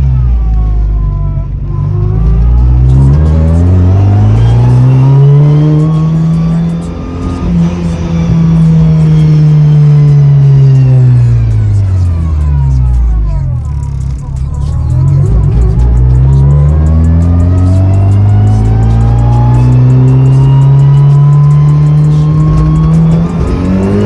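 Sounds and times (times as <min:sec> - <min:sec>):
race car engine accelerating: 0:00.0 - 0:24.0.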